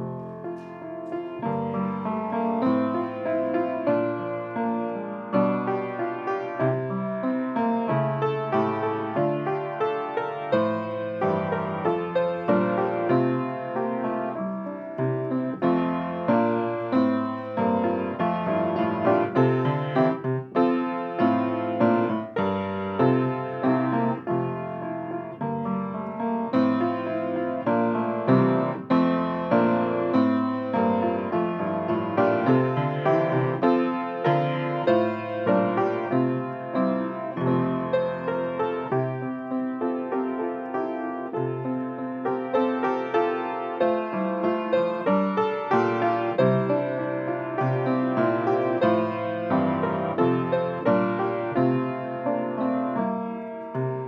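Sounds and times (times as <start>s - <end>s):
piano chords and melody: 0.0s - 54.0s.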